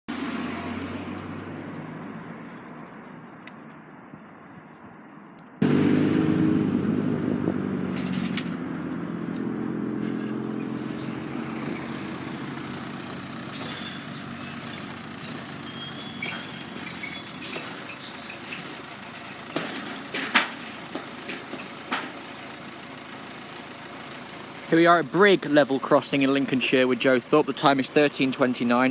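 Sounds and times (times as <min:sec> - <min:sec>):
loud engine hum: 0:00.1 - 0:04.1, 0:05.4 - 0:28.9
vehicle engines running: 0:00.1 - 0:28.9.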